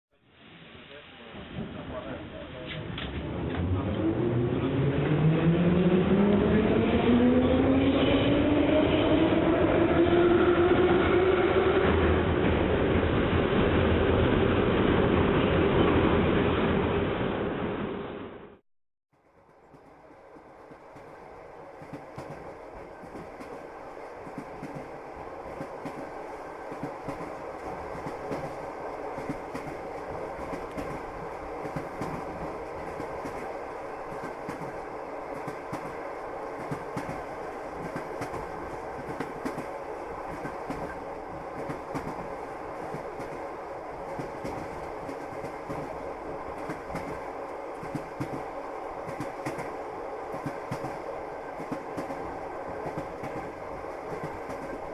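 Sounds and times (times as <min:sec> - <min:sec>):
train rolling rumble: 0:01.0 - 0:18.6, 0:19.2 - 0:54.9.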